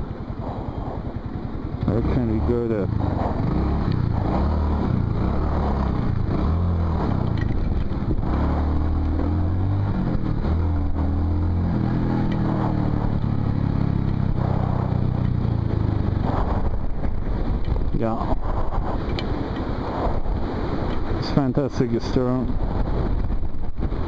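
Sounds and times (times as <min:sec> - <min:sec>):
motorcycle engine revving: 0:00.0 - 0:21.4
wind noise: 0:00.0 - 0:24.0.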